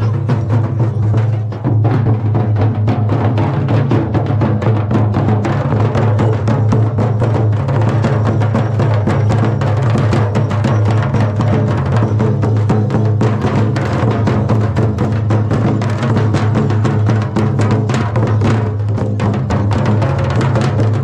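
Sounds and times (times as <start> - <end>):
fast folk drumming: 0.0 - 21.0.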